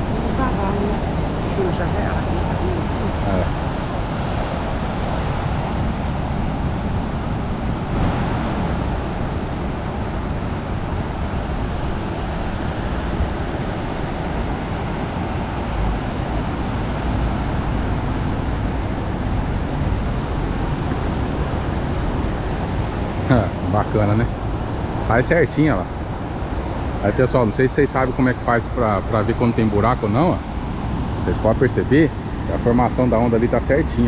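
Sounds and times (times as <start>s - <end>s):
ocean surf washing onto beach: 0.0s - 34.0s
wind rumbling on microphone: 0.0s - 34.0s.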